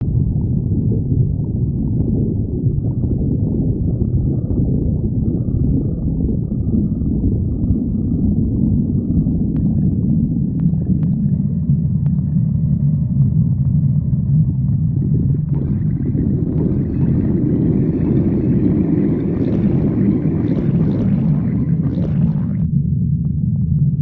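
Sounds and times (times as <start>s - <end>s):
stomach growling: 0.0s - 23.4s.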